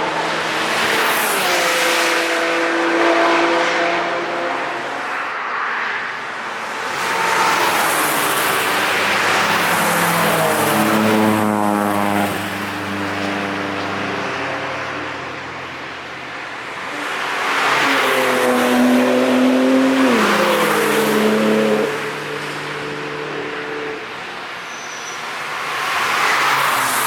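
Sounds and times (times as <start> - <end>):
cars driving past at speed: 0.0 - 27.0.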